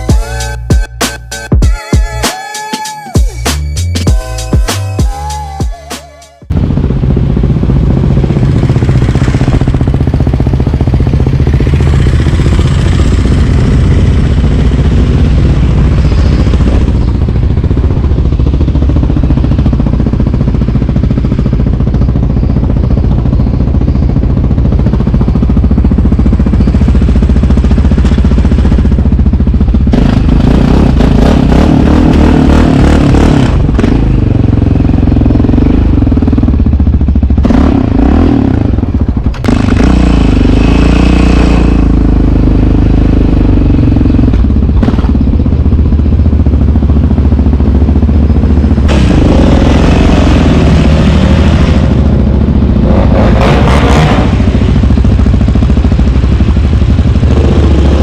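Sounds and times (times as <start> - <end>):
atv engine running: 6.2 - 58.0.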